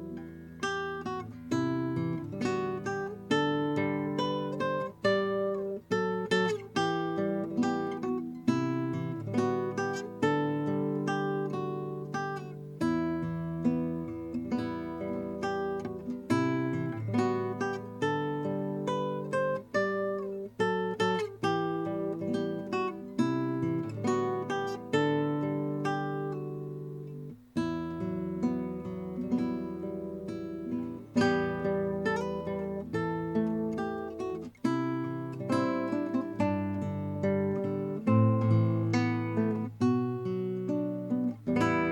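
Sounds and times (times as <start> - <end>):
classical guitar played fingerstyle: 0.0 - 41.9.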